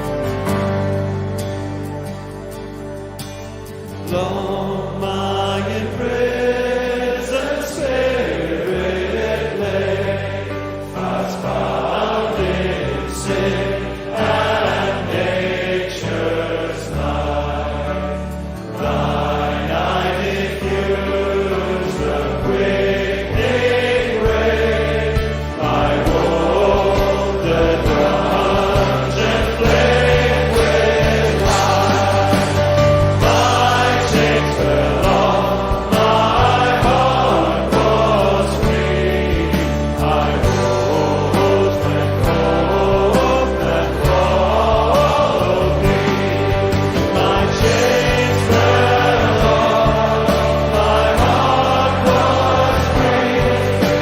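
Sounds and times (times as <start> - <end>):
voices singing a hymn: 0.0 - 1.5, 3.9 - 54.0
organ-like accompaniment: 0.0 - 54.0.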